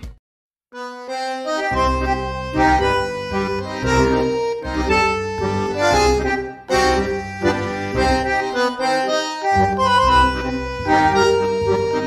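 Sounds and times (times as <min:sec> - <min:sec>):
music with pulsing bass: 0:01.7 - 0:12.0.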